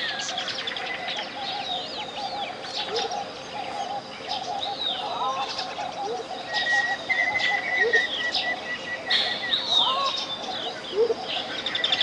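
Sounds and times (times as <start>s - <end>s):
birds whistling and chirping: 0.0s - 12.0s
lower chattering bird call: 0.0s - 12.0s.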